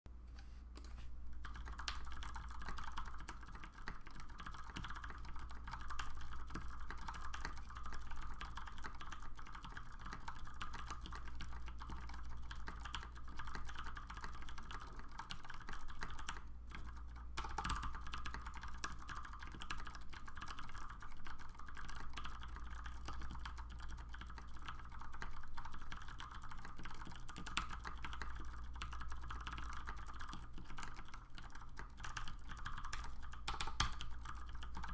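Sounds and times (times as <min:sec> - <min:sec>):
mechanical keyboard typing: 0:01.3 - 0:34.9.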